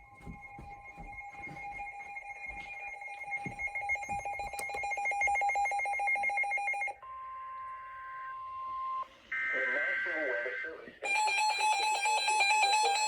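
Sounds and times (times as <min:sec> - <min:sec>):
emergency alert tones: 0:00.0 - 0:13.0.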